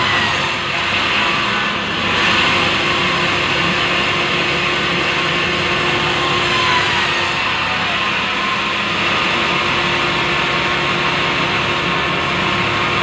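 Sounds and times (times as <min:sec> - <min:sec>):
band saw cutting log: 0:00.0 - 0:13.0.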